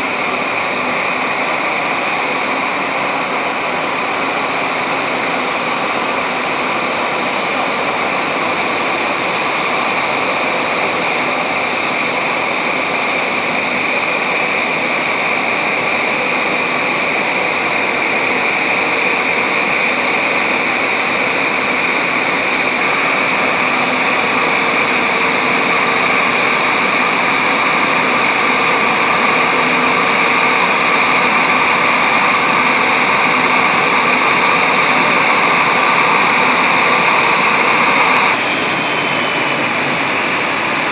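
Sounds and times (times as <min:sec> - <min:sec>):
jet engine whine: 0:00.0 - 0:40.9.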